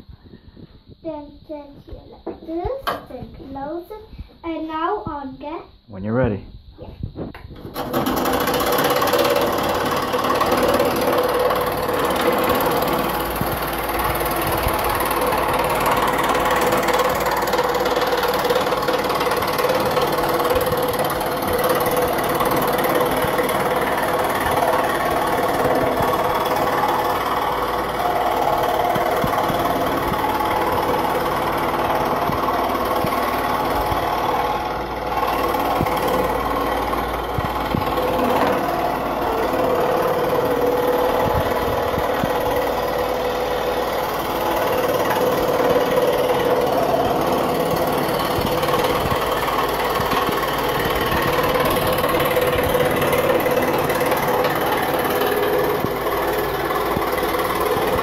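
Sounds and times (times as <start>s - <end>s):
electric scroll saw cutting wood: 7.6s - 58.0s.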